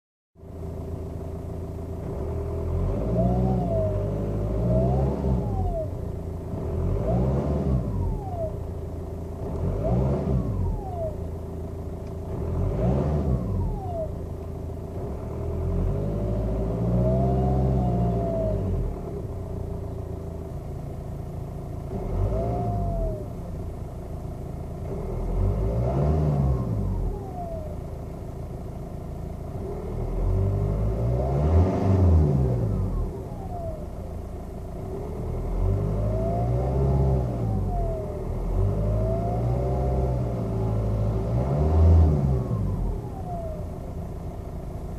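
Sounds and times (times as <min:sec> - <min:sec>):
turbocharger whine: 0:00.5 - 0:44.9
diesel engine revving: 0:01.8 - 0:28.4, 0:29.2 - 0:44.9.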